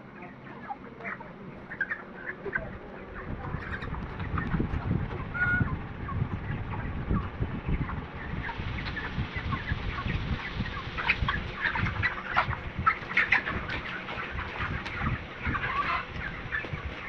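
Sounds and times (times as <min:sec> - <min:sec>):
chickens clucking and peeping: 0:00.0 - 0:17.0.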